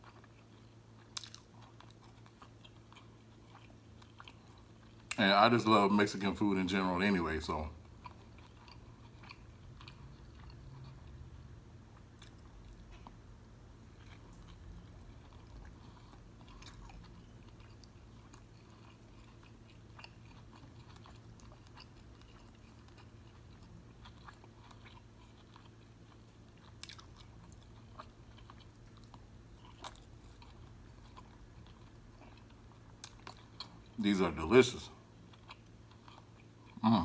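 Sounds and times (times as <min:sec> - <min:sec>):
person chewing food: 0:00.0 - 0:05.2, 0:07.7 - 0:34.0, 0:35.0 - 0:37.0.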